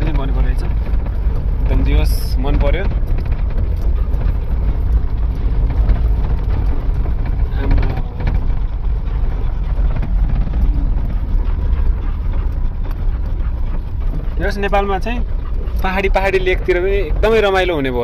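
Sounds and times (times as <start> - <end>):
road noise: 0.0 - 18.0
truck engine rumbling: 0.0 - 18.0.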